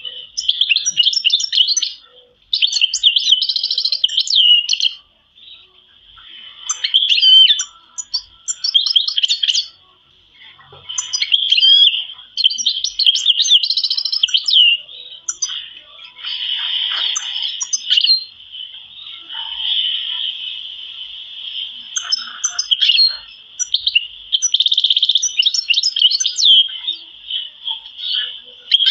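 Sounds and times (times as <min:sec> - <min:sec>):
canaries singing: 0:00.0 - 0:28.9.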